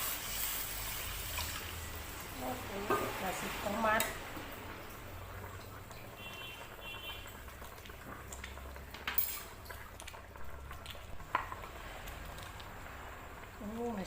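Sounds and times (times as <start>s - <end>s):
broth bubbling in a pot: 0.0s - 14.0s.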